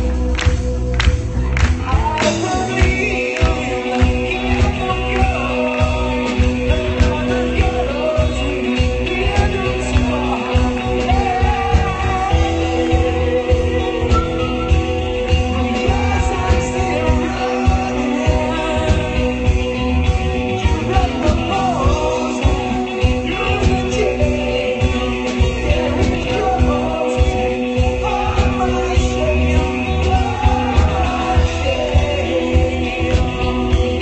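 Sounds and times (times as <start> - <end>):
live rock band playing: 0.0 - 34.0
man singing: 1.8 - 34.0.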